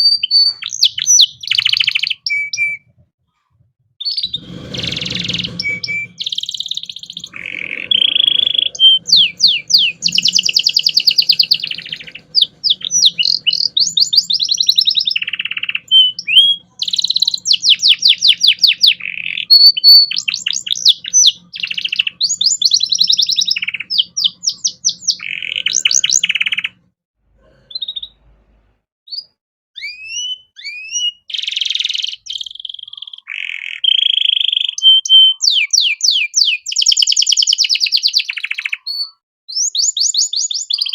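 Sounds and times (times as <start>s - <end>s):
canary singing trills: 0.0s - 3.0s, 4.0s - 26.8s, 27.5s - 28.2s, 29.1s - 40.9s.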